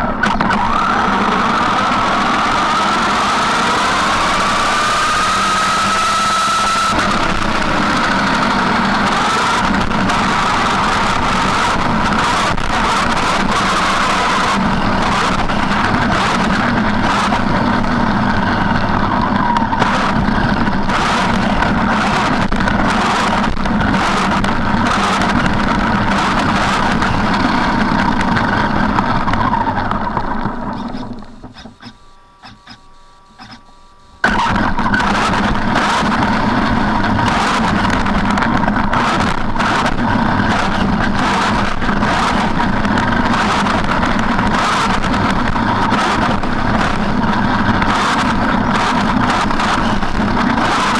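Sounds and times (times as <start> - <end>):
electric motor whine: 0.0 - 50.9
tyres running noise: 0.0 - 50.9.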